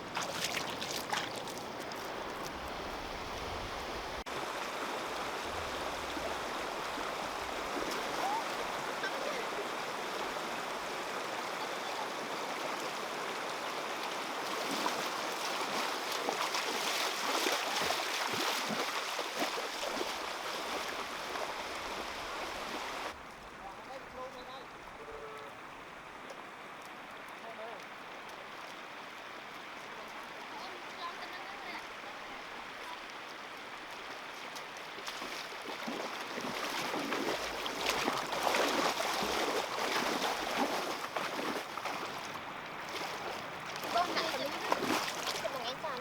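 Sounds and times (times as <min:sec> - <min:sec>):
water running: 0:00.0 - 0:23.2, 0:27.0 - 0:46.0
water splashing and sloshing: 0:00.0 - 0:46.0.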